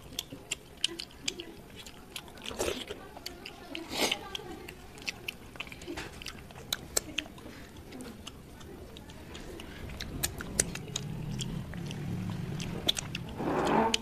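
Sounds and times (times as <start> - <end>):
wet chewing and lip smacks: 0.0 - 14.0.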